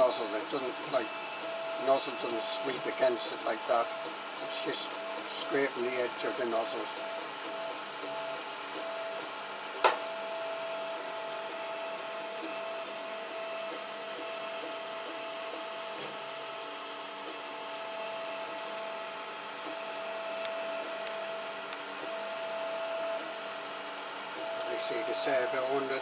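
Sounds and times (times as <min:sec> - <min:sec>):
printer fans and motors whirring: 0:00.0 - 0:26.0.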